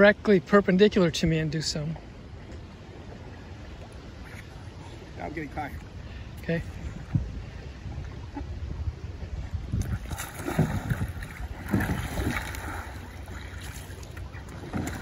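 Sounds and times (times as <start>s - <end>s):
water splashing around kayak: 0.0s - 15.0s
wind rumble on microphone: 2.1s - 15.0s.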